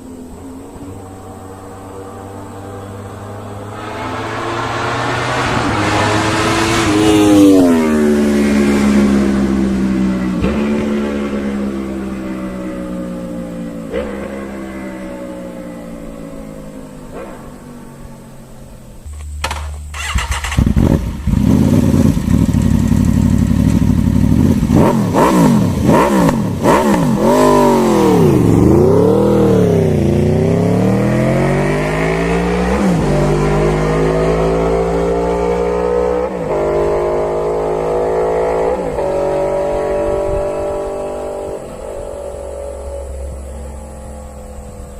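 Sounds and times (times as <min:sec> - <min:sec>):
motorcycle accelerating through gears: 0:00.0 - 0:44.9
motorcycle engine revving: 0:00.0 - 0:44.9.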